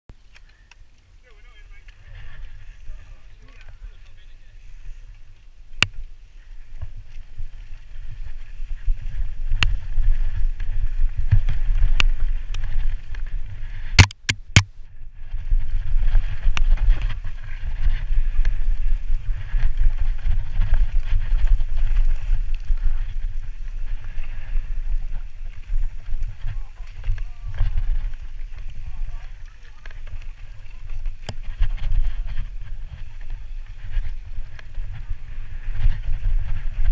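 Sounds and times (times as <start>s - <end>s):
bike tyres rolling on dirt: 0.1s - 36.9s
wind rumble on microphone: 0.1s - 36.9s
bike rattling: 0.2s - 36.9s.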